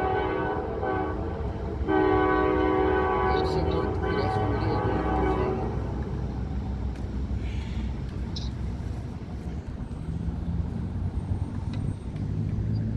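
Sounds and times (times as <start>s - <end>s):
rumble of moving vehicles: 0.0s - 12.9s.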